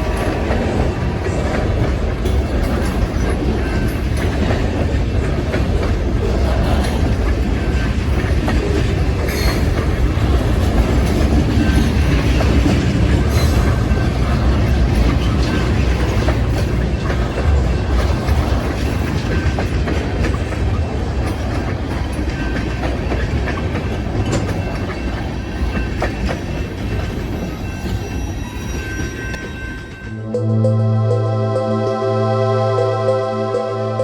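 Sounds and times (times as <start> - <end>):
freight train wheels clacking: 0.0 - 30.3.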